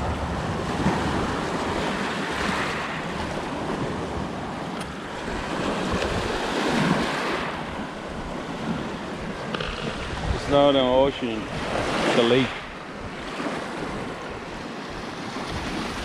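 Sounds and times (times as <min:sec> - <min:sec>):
waves washing onto shore: 0:00.0 - 0:16.0
wind buffeting microphone: 0:00.0 - 0:16.0.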